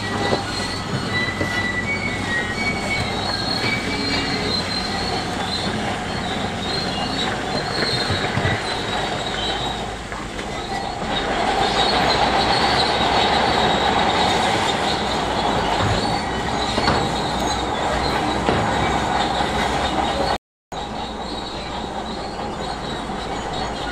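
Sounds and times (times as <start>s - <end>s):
bulldozer engine and clanking: 0.0s - 23.9s
bulldozer tracks squealing: 0.0s - 23.9s.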